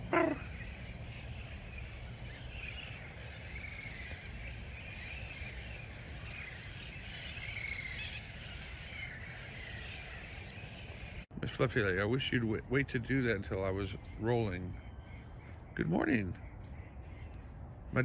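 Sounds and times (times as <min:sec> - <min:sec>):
peahens chirping calls: 0:00.0 - 0:18.0.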